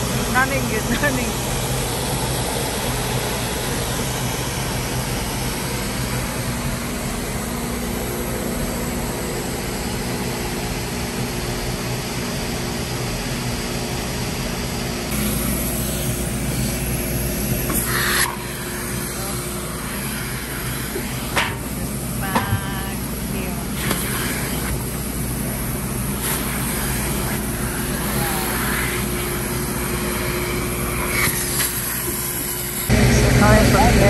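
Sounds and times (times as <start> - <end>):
car wash machinery drone: 0.0 - 34.0.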